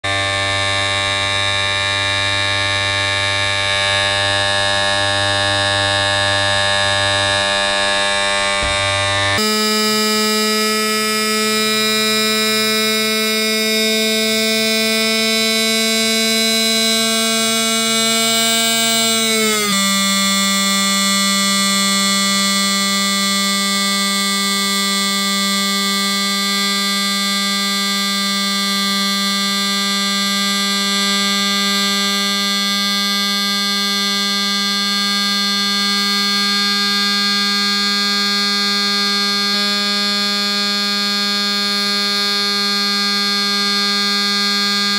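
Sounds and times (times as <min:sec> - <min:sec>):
small fan motor buzzing whine: 0:00.1 - 0:44.9.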